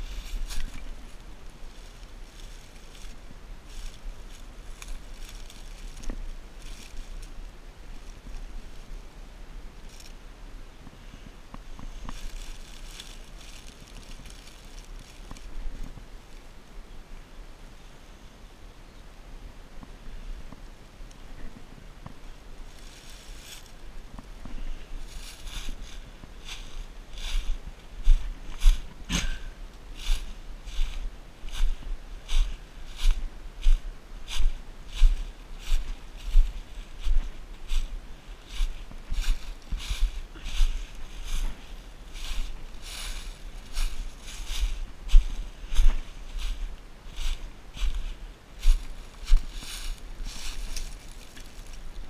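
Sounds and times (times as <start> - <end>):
dry leaves rustling and crackling: 0.0 - 16.7, 22.1 - 52.0
wind rumble on microphone: 0.0 - 17.8, 19.4 - 52.0.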